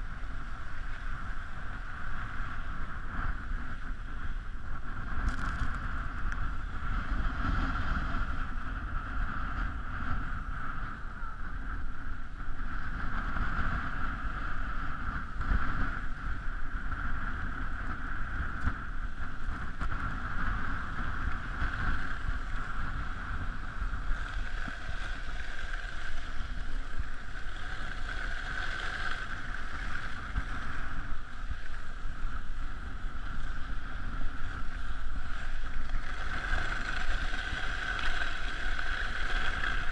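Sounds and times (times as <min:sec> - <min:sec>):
skis sliding on snow: 0:00.0 - 0:11.0, 0:12.5 - 0:39.9
wind on microphone: 0:00.0 - 0:39.9.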